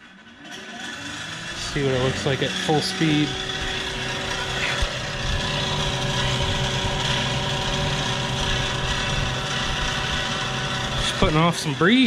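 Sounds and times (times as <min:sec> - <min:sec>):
electric spinner motor hum: 0:00.0 - 0:12.0.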